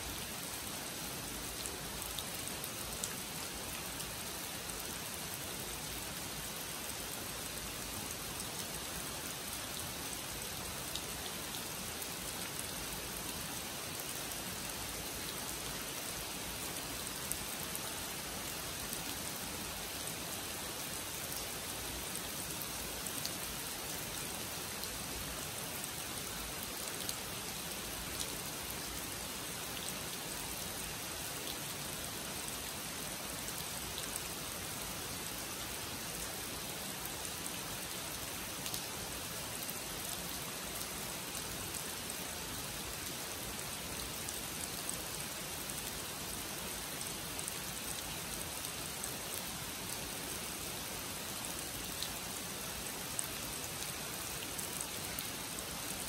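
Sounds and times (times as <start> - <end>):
rain falling on pond and foliage: 0.0 - 56.0.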